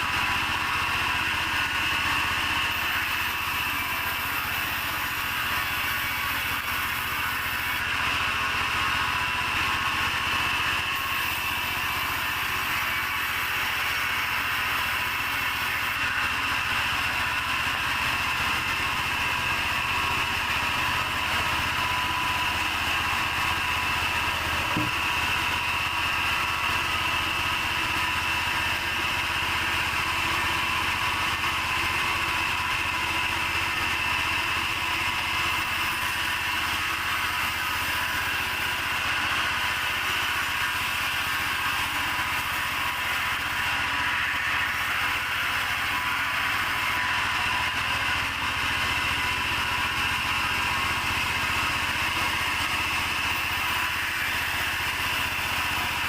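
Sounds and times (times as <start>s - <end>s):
sawmill machinery humming and whining: 0.0s - 56.0s.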